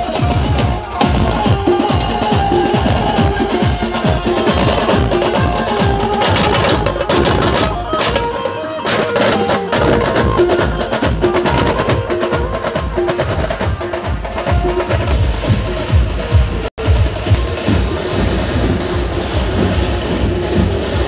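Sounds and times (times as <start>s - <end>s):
procession band playing: 0.0s - 20.9s
drums beating: 0.0s - 21.0s.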